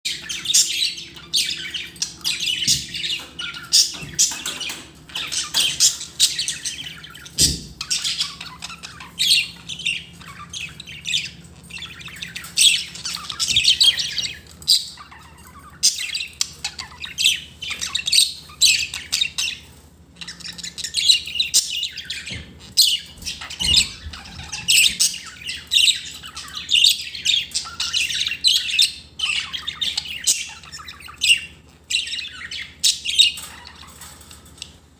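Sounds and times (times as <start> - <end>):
budgerigars chattering and squawking: 0.1 - 34.9.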